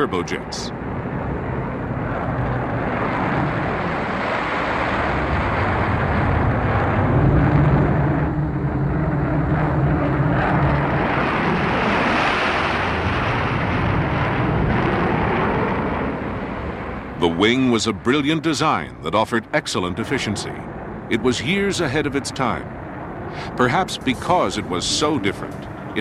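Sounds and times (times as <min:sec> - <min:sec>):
jet engines roaring: 0:00.0 - 0:26.0
low drone: 0:00.0 - 0:26.0.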